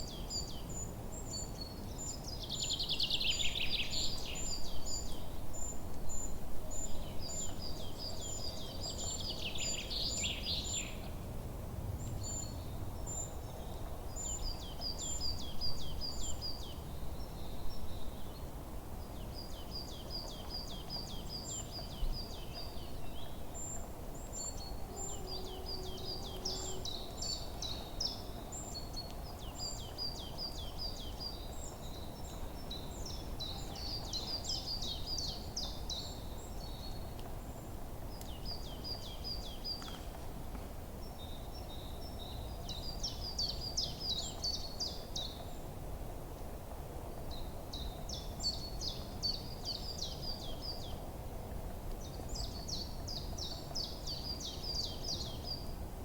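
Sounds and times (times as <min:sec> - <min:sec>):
songbirds chirping and trilling: 0:00.0 - 0:11.2, 0:11.8 - 0:46.3, 0:51.9 - 0:56.0
low outdoor ambient hum: 0:00.0 - 0:56.0.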